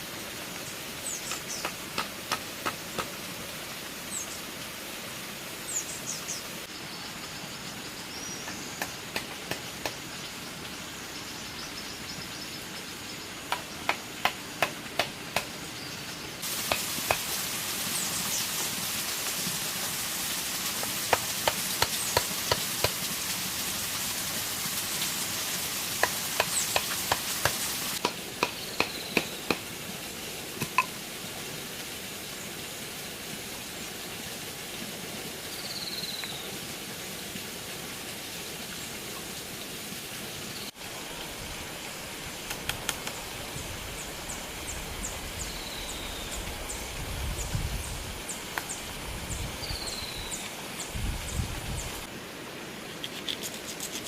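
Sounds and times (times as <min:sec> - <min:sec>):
steady outdoor hiss: 0:00.0 - 0:54.0.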